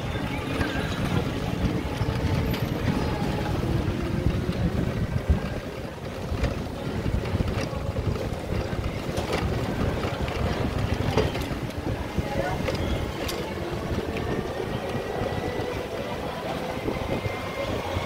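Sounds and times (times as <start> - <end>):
street traffic: 0.0 - 18.0
wind buffeting microphone: 0.0 - 18.0.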